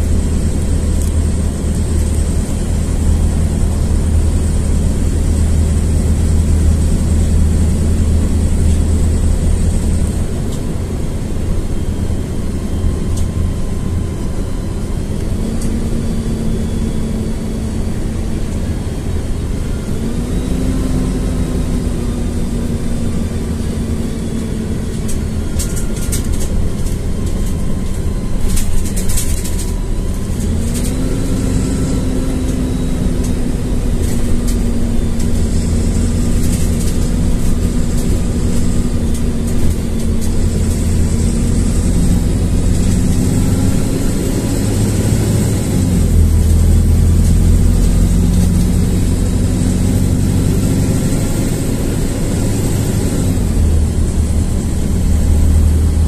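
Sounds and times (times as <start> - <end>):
bus engine hum and whine: 0.0 - 56.0.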